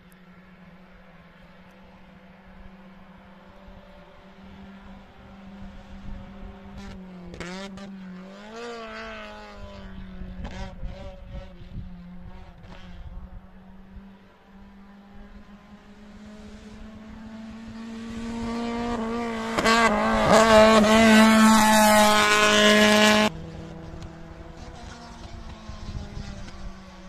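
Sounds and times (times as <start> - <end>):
race car engine at full throttle: 0.0 - 27.0.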